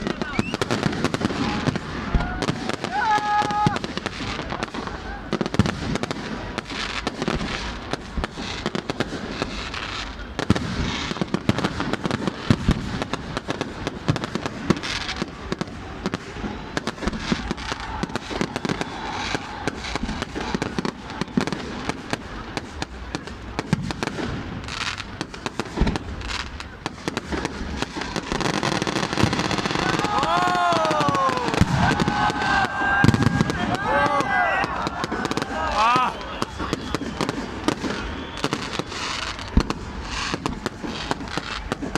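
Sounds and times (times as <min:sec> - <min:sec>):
fireworks crackling and popping: 0:00.0 - 0:41.9
loud firework bangs: 0:00.0 - 0:41.9.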